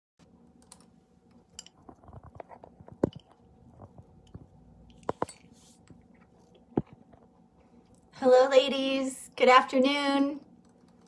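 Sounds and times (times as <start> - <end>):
faint steady hum: 0.2 - 11.0.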